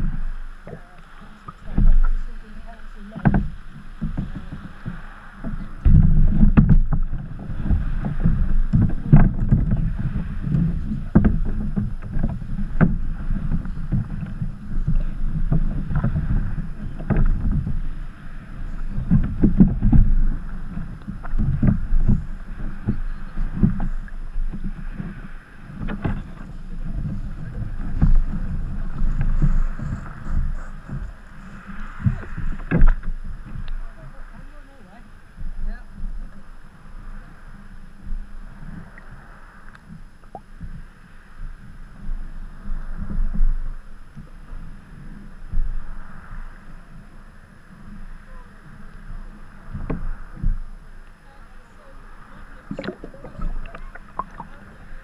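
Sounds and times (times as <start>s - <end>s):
water slapping against kayak hull: 0.0s - 55.0s
wind buffeting microphone: 0.0s - 55.0s.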